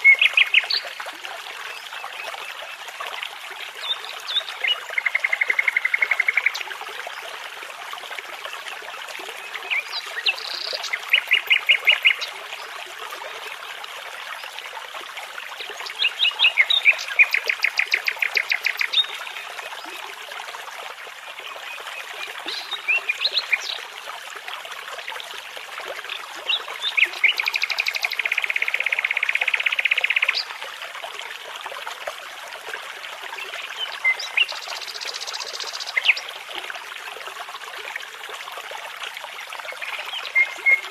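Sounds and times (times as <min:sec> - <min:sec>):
babbling brook: 0:00.0 - 0:40.9.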